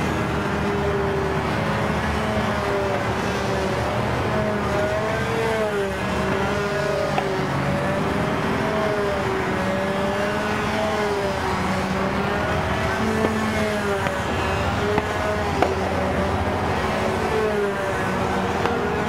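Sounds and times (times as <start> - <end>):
model airplane engine buzzing: 0.0 - 19.0.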